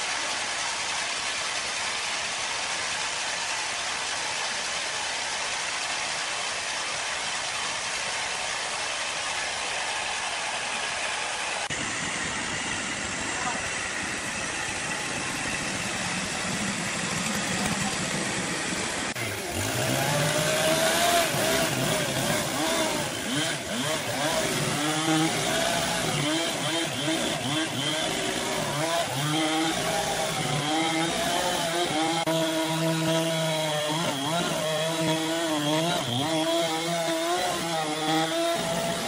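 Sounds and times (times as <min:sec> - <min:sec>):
chainsaw revving and cutting log: 0:00.0 - 0:39.0
steady machinery noise: 0:00.0 - 0:39.0.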